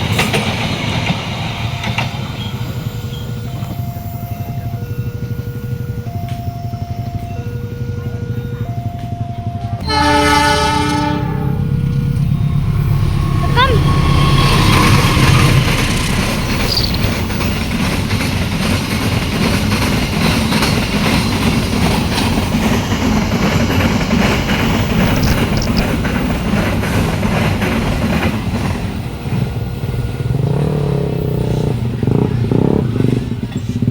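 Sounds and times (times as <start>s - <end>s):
train wheels clattering on rails: 0.0s - 33.9s
low engine hum: 1.4s - 33.9s.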